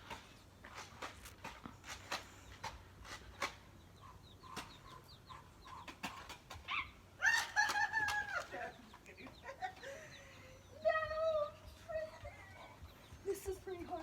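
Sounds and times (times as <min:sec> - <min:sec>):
chicks peeping: 0:02.3 - 0:14.0.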